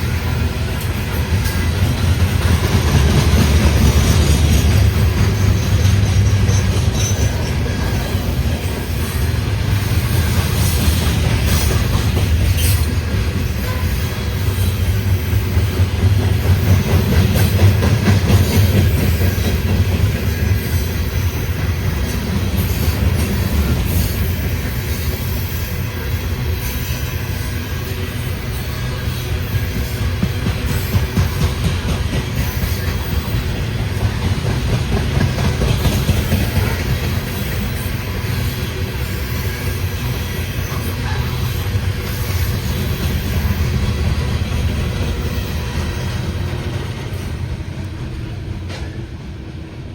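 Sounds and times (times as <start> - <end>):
wheels clacking over rail joints: 0.0 - 26.2, 28.3 - 49.2
freight train rumbling: 0.0 - 49.9.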